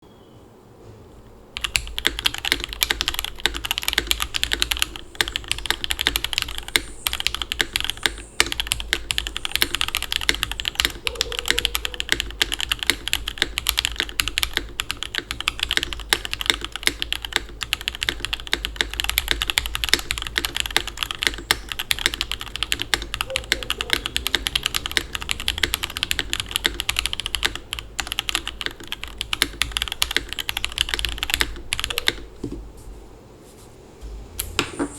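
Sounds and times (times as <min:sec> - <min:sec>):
mechanical keyboard typing: 0:01.6 - 0:32.3.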